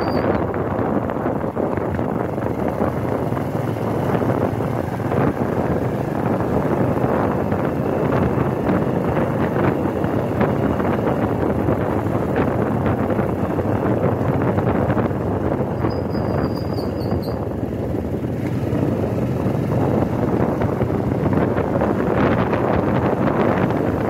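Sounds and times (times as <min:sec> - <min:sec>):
engine and road noise: 0:00.0 - 0:24.0
wind buffeting microphone: 0:00.0 - 0:24.0.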